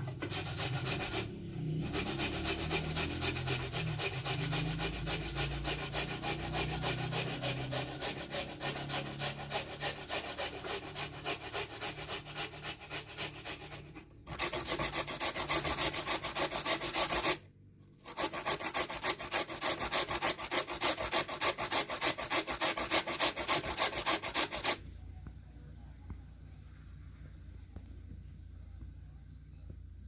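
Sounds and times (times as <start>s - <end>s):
rapid back-and-forth scraping: 0.0s - 24.9s.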